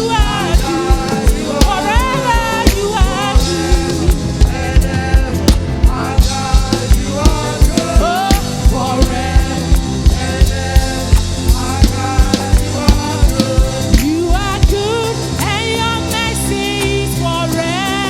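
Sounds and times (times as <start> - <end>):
drum-kit beat: 0.0 - 18.0
singing: 0.0 - 18.0
worship band playing: 0.0 - 18.0.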